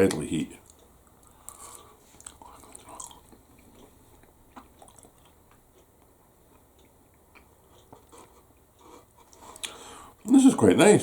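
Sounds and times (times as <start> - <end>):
person chewing noodles: 0.6 - 9.8.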